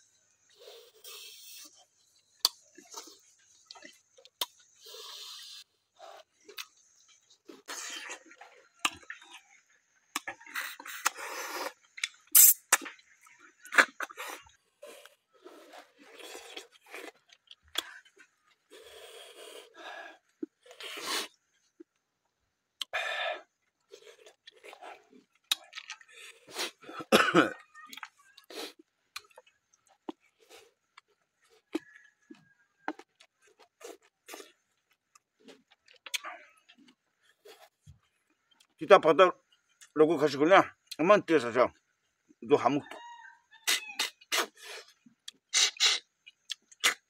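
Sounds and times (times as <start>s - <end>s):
slurping at snail shells: 0.2s - 22.0s, 22.7s - 38.7s, 43.6s - 47.0s
chewing: 0.4s - 22.0s, 22.8s - 38.8s, 43.6s - 47.0s.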